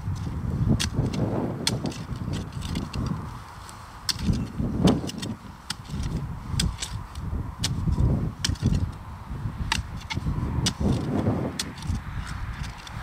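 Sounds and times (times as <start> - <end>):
spade chopping into stony ground: 0.1 - 3.2, 4.0 - 8.9, 9.6 - 13.0.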